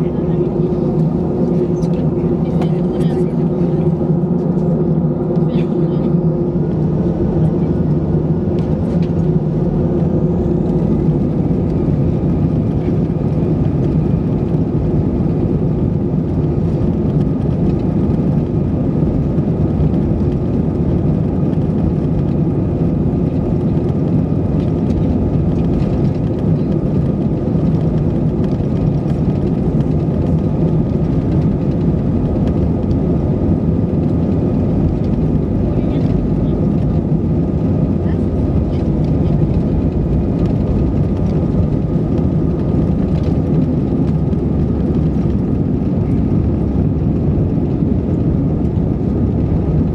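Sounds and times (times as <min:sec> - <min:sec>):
jet engines heard from cabin: 0:00.0 - 0:49.9.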